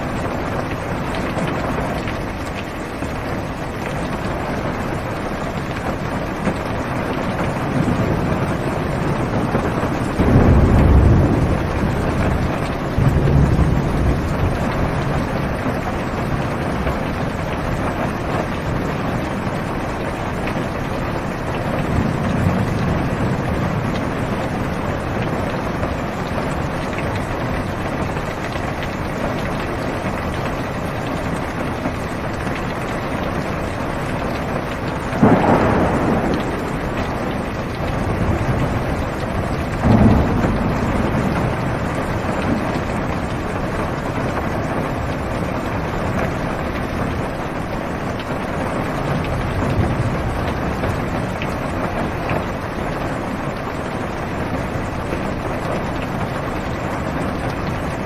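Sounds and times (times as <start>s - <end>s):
heavy rain on a car roof: 0.0s - 58.0s
thunder claps: 0.0s - 58.0s.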